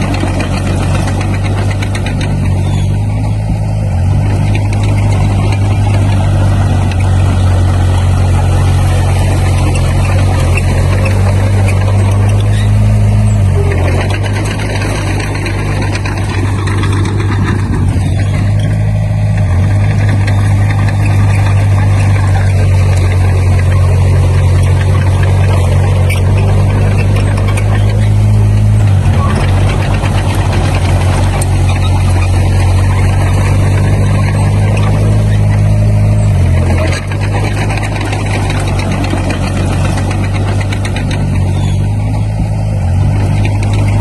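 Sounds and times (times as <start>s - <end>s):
bulldozer diesel engine running: 0.0s - 44.0s
dense mechanical noise: 0.0s - 44.0s.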